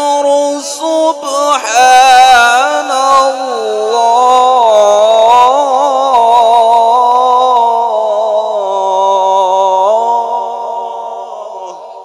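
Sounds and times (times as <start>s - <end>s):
man reciting melodic chant: 0.0s - 12.0s.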